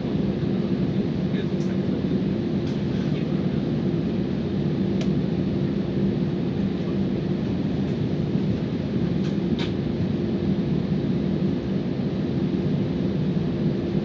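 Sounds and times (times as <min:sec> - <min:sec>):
jet engines roaring in cabin: 0:00.0 - 0:14.0.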